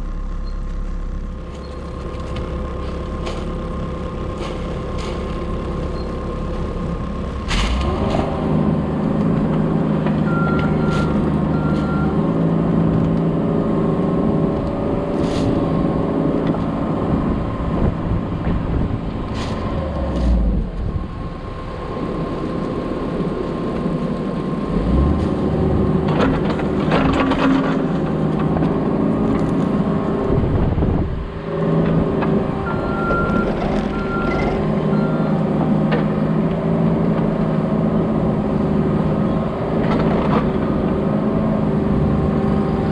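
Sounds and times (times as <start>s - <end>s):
diesel machine running: 0.0s - 42.9s.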